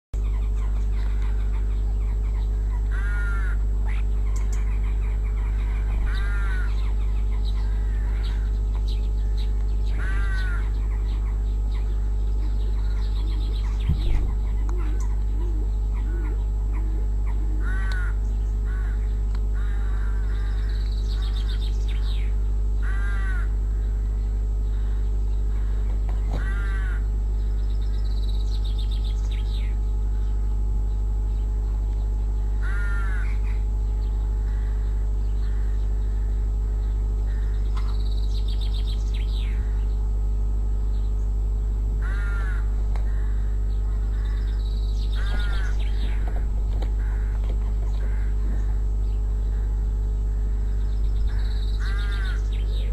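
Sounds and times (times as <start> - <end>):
low hum: 0.2 - 52.9
rooks cawing: 0.2 - 52.9.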